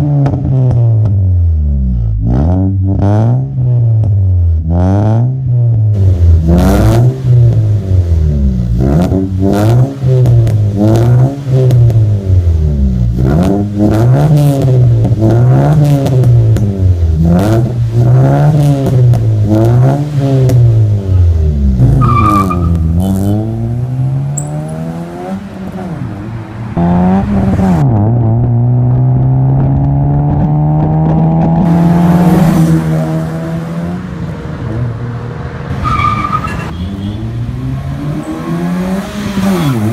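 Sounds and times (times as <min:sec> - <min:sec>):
car accelerating: 0:00.0 - 0:39.9
car engine revving: 0:00.0 - 0:39.9.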